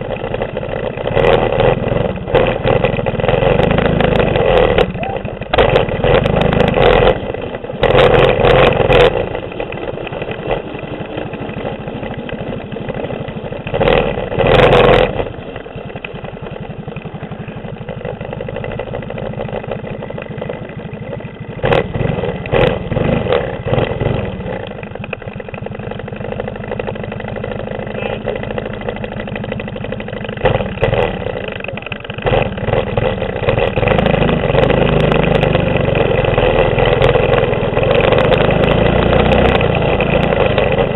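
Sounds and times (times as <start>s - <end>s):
mini bike engine revving: 0.0s - 40.9s.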